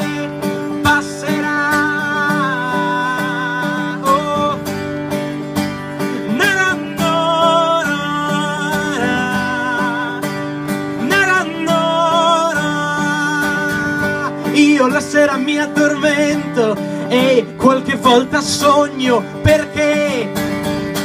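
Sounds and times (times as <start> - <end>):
man singing without words: 0.0 - 5.1, 5.9 - 21.0
strummed acoustic guitar: 0.0 - 21.0.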